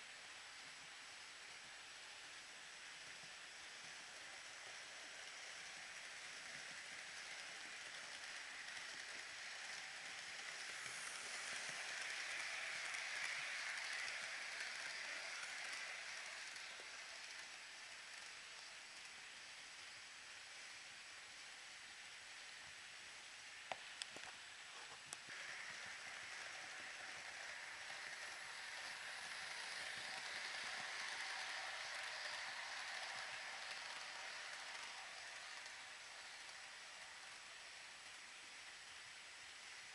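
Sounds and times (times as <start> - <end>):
model train rolling on track: 0.0 - 39.9.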